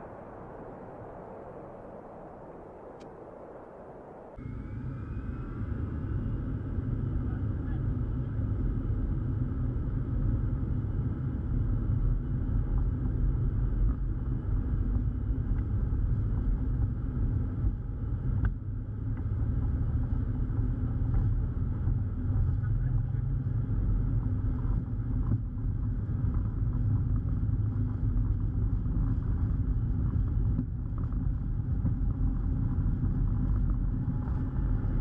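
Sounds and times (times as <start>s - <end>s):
airplane engine rumble and whine: 0.0s - 35.0s.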